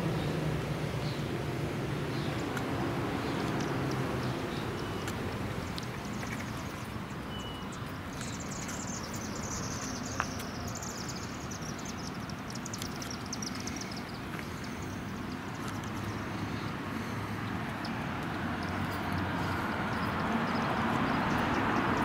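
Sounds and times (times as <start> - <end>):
traffic noise: 0.0 - 22.0.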